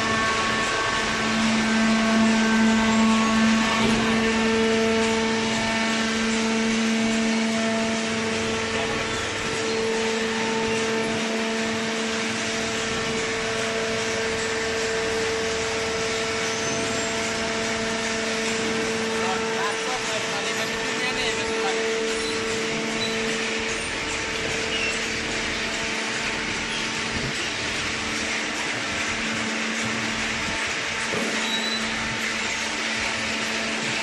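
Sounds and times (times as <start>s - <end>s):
baling press humming: 0.0s - 34.0s
pitched machine whine: 0.0s - 34.0s.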